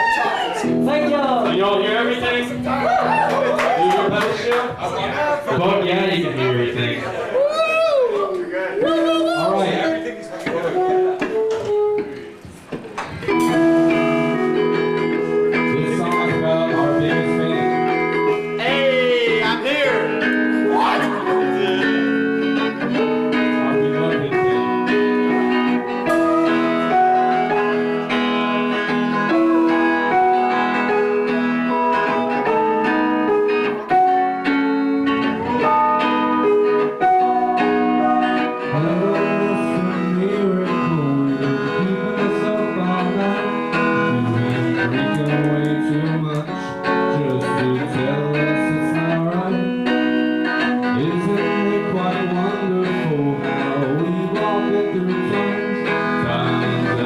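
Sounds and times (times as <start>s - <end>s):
live band guitar song: 0.0s - 57.0s.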